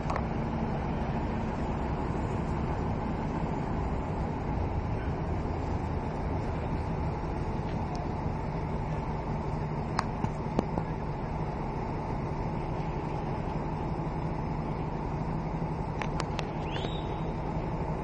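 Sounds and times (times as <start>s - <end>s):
ship engines rumbling: 0.0s - 18.0s.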